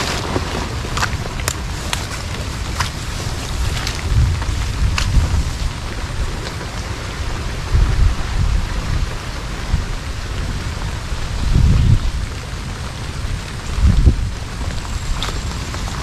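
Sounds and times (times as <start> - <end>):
steady rain: 0.0 - 16.0
wind buffeting microphone: 0.0 - 16.0.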